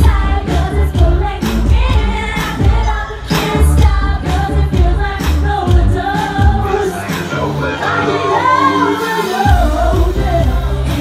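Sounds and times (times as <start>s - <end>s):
pounding electronic dance beat: 0.0s - 11.0s
woman singing amplified: 0.0s - 11.0s.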